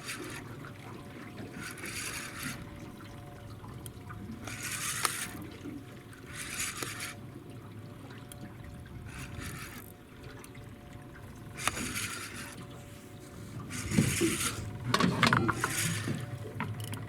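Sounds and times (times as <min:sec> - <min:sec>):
faint steady hum: 0:00.0 - 0:17.0
water splashing and sloshing: 0:00.0 - 0:17.0.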